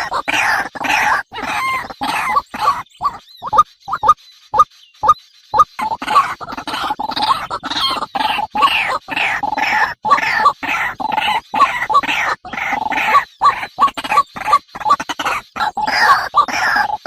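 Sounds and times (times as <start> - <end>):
birds chirping and squawking: 0.0 - 17.0.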